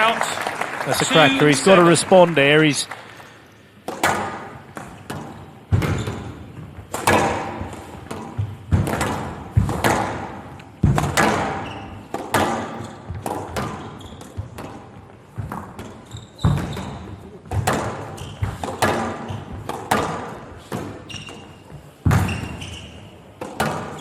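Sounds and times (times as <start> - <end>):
squash ball hitting rackets and walls: 3.8 - 24.0.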